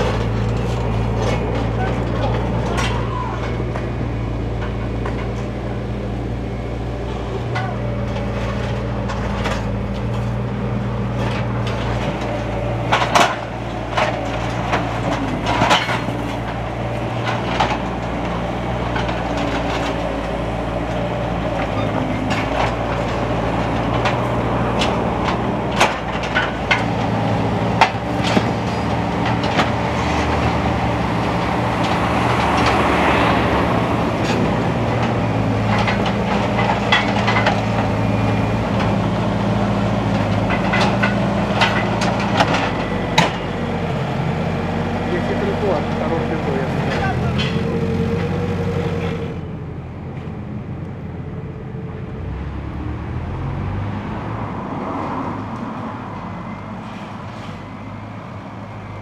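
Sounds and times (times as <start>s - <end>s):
loader engine running: 0.0s - 59.0s.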